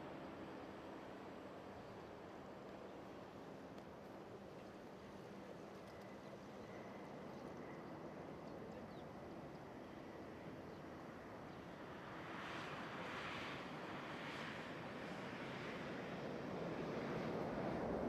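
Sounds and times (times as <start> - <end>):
distant jet engines rushing: 0.0 - 18.0.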